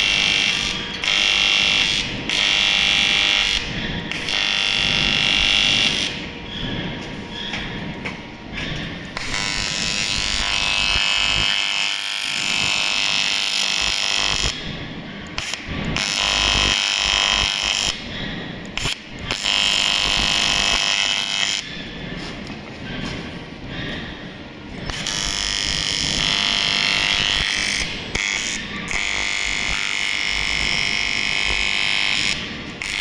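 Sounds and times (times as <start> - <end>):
welding arc buzzing: 0.0 - 22.2, 24.7 - 33.0.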